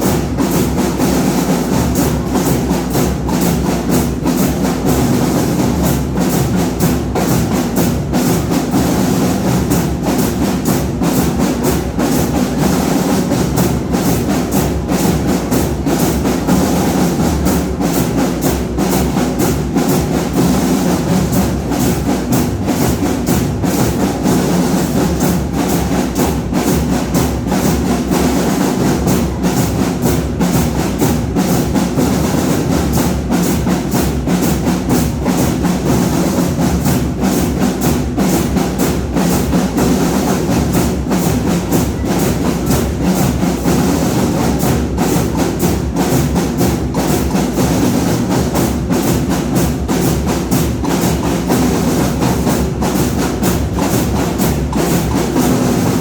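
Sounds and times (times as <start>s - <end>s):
drums beating a driving rhythm: 0.0s - 56.0s
marching band playing: 0.0s - 56.0s.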